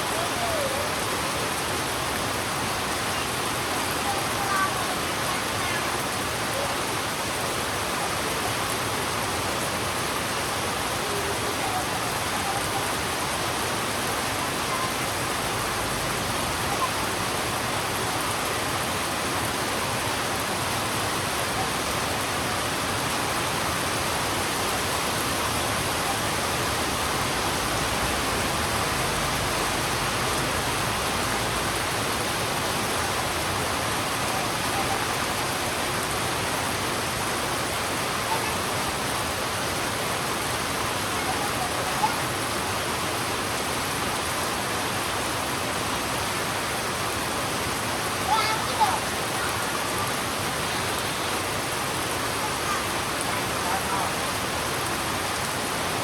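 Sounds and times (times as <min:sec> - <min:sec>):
heavy rain on a road: 0:00.0 - 0:56.0.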